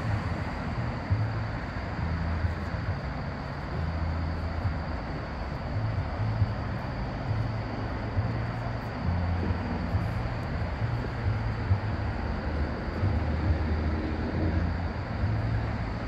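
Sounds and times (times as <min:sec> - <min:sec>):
low rumble: 0:00.0 - 0:16.0
rushing hiss: 0:00.0 - 0:16.0.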